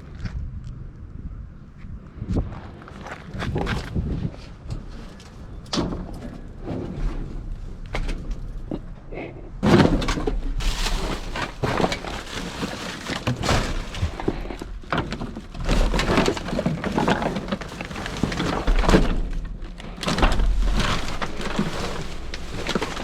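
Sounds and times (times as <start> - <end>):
items clattering in dumpster: 3.0 - 23.0.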